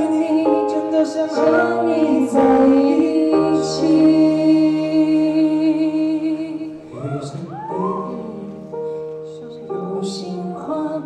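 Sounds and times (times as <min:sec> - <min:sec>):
woman singing: 0:00.0 - 0:06.8, 0:07.6 - 0:11.0.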